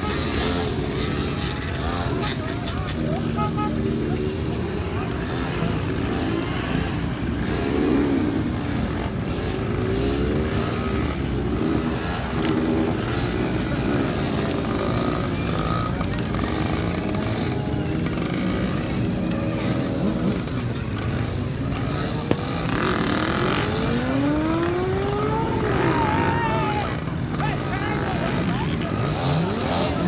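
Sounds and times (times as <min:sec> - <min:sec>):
crowd noise: 0:00.0 - 0:30.0
motorcycle engines revving: 0:00.0 - 0:30.0.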